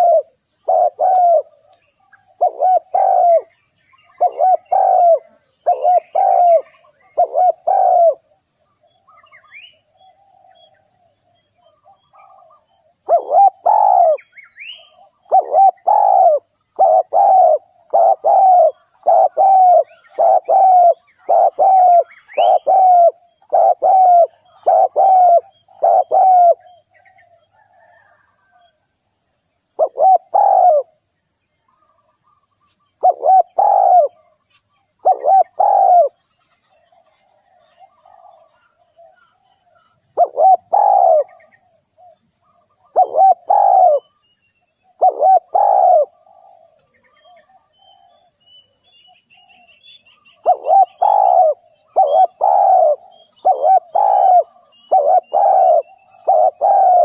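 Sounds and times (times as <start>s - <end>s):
dove cooing: 0.0s - 8.2s, 11.7s - 28.7s, 29.8s - 31.0s, 33.0s - 34.4s, 35.0s - 36.2s, 36.8s - 44.2s, 44.9s - 48.4s, 50.4s - 57.0s
small birds chirping: 0.0s - 28.7s, 31.6s - 57.0s.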